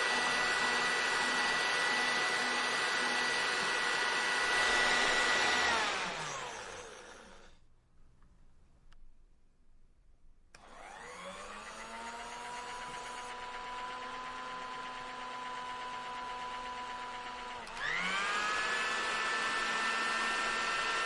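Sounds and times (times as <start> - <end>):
hair dryer whining: 0.0 - 7.6, 10.6 - 21.0.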